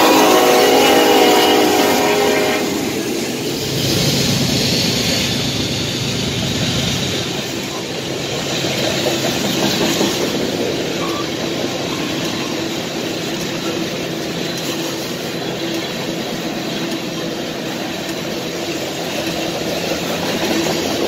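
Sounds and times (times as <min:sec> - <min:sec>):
diesel locomotive engine drone: 0:00.0 - 0:21.0
train wheels rumbling on rails: 0:00.0 - 0:21.0.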